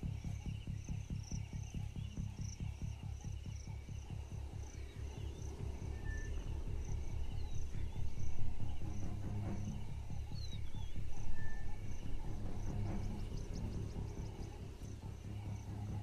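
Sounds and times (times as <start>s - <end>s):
deep rhythmic throb: 0.0s - 16.0s
night insects chirping: 0.0s - 16.0s.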